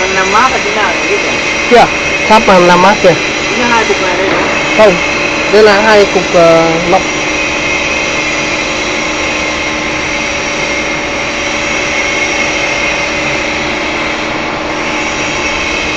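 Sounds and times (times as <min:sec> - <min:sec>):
machine humming with steady tones: 0:00.0 - 0:15.9.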